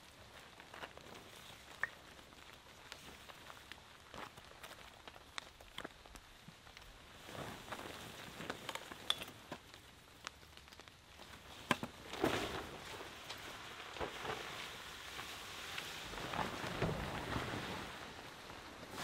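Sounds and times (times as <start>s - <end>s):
tarp rustling: 0.2s - 5.2s, 7.0s - 9.7s, 11.2s - 19.0s.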